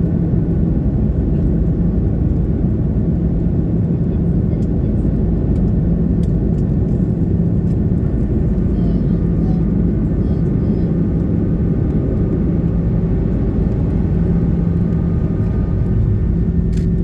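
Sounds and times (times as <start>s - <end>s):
jet engine cabin rumble: 0.0s - 17.0s.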